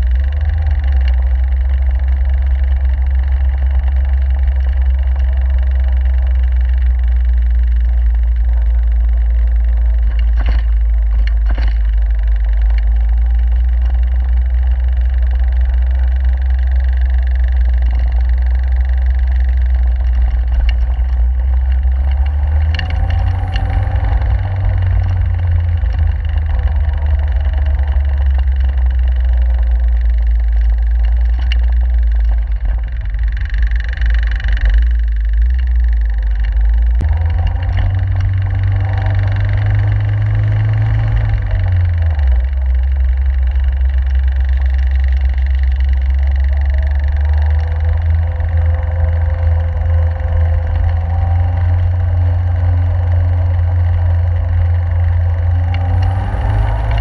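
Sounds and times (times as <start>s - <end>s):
car engine running: 0.0s - 57.0s
wind rumble: 0.0s - 57.0s.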